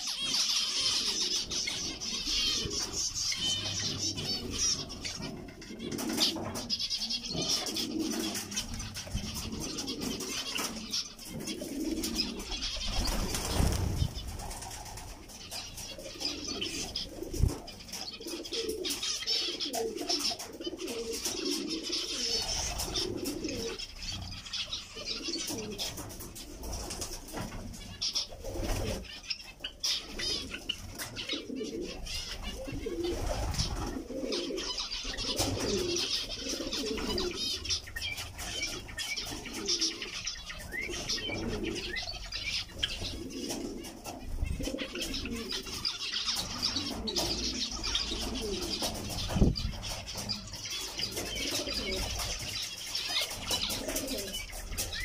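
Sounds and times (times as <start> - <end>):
dove cooing: 0.0 - 55.0
zebra finch chirps: 0.0 - 55.0.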